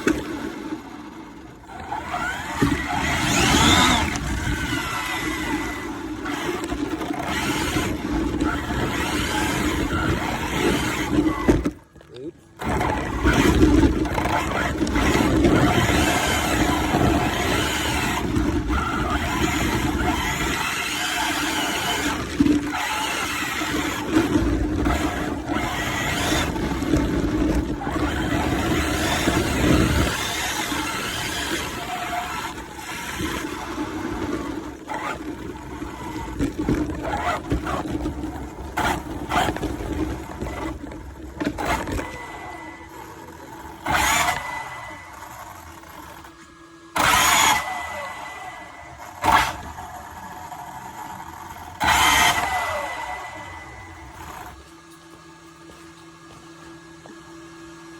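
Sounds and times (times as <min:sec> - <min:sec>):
toy car electric motor whining: 0:00.0 - 0:55.0.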